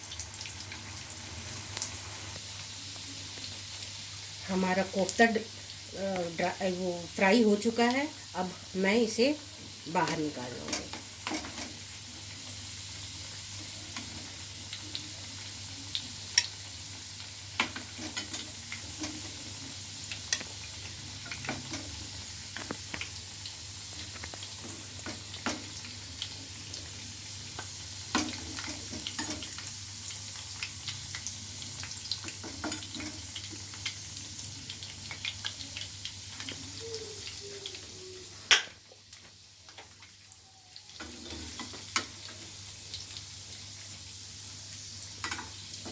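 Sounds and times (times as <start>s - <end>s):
meat sizzling in hot oil: 0.0s - 45.9s.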